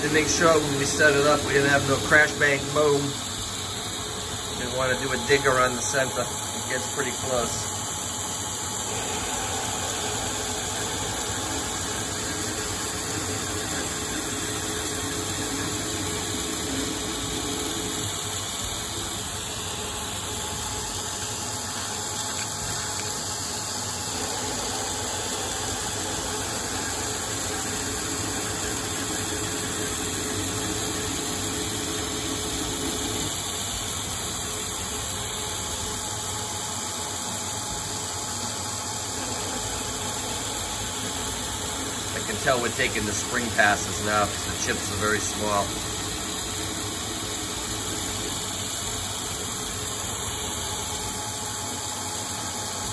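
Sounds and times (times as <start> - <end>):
lathe cutting metal: 0.0 - 52.9.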